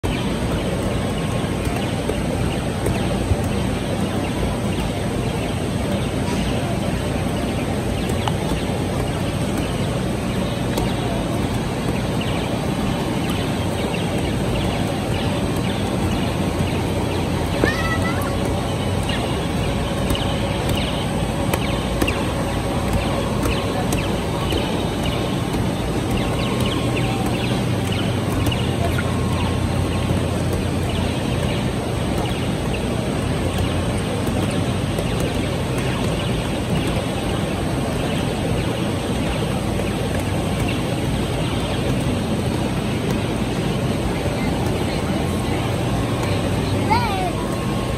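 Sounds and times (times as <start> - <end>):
foam bats tapping buttons: 0.0 - 46.6
air blowers rumbling: 0.0 - 47.9
busy hall din: 0.0 - 47.9.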